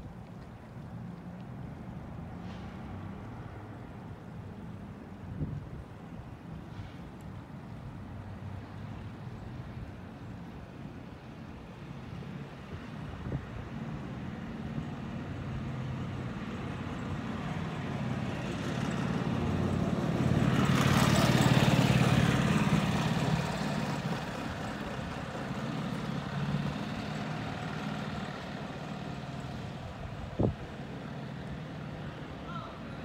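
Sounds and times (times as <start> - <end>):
road noise: 0.0 - 33.0
vehicle engine hum passing: 0.6 - 33.0.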